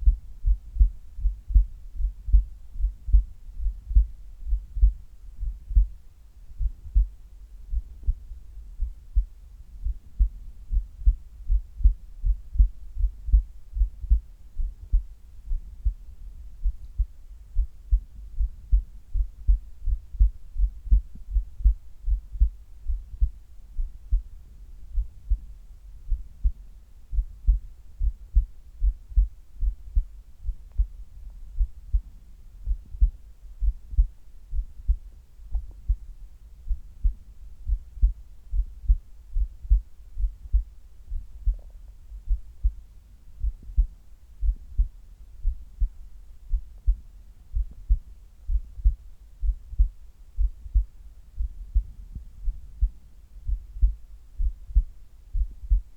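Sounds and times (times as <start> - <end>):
heartbeat thumps: 0.0 - 55.9.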